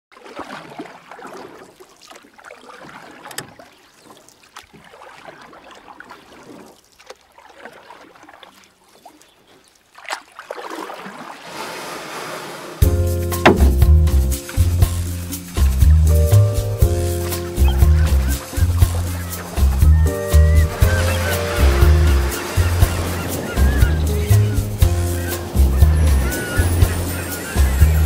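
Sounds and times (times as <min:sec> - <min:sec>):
paddles splashing in water: 0:00.1 - 0:28.0
rush of water: 0:00.1 - 0:28.0
water running past hull: 0:00.1 - 0:28.0.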